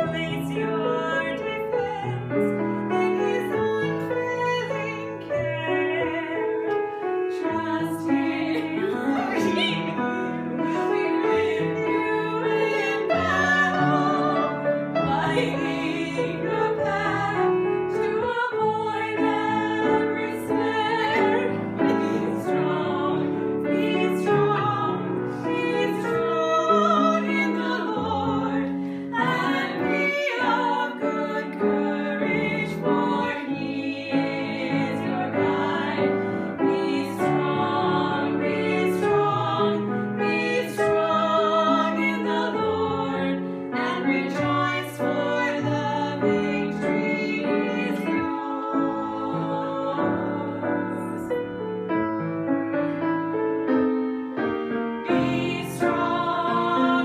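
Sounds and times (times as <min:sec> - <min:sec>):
women singing together: 0:00.0 - 0:51.5, 0:55.0 - 0:57.0.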